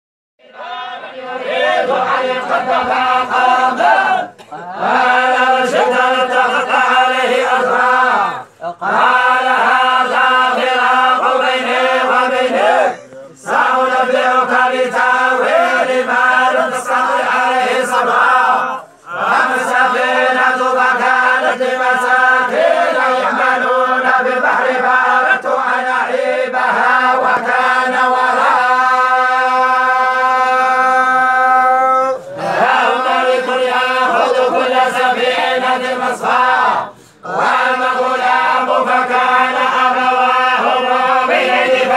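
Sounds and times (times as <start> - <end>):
group chanting in unison: 0.4 - 41.9.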